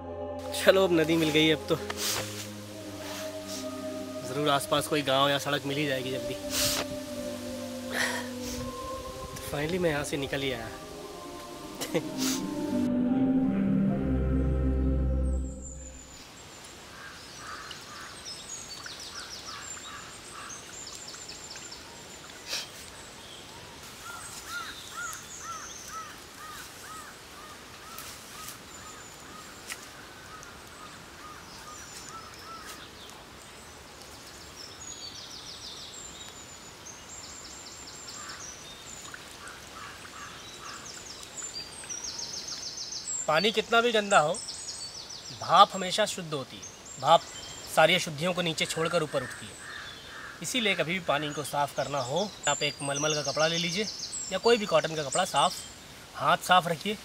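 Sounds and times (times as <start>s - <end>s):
background hiss: 0.0s - 57.0s.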